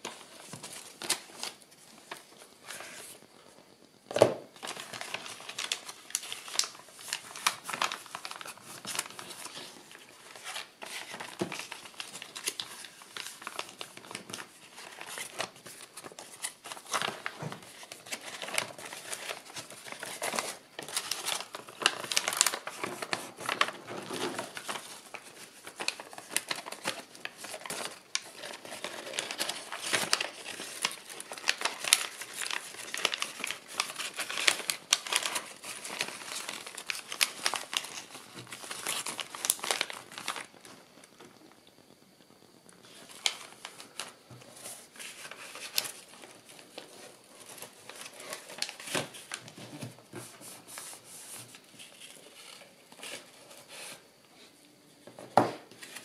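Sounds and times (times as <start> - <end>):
paper rustling and crinkling: 0.0 - 3.4, 4.1 - 41.4, 42.8 - 54.1, 55.0 - 56.0
paper crackles and taps: 4.1 - 41.4, 43.1 - 53.3.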